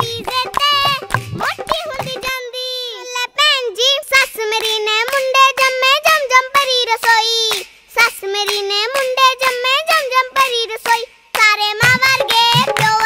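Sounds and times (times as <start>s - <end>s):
girl singing in high voice: 0.0s - 13.0s.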